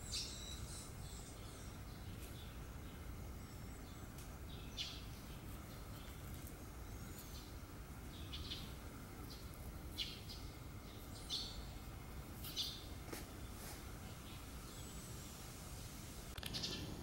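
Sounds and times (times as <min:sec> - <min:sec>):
birds chirping: 0:00.0 - 0:17.0
low outdoor rumble: 0:00.0 - 0:17.0.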